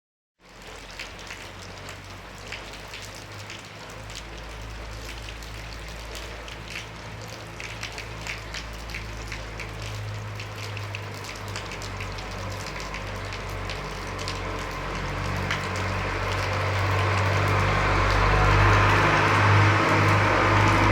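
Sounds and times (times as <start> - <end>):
rain drops ticking on hard surface: 0.4 - 20.9
engine rumble: 0.6 - 20.9.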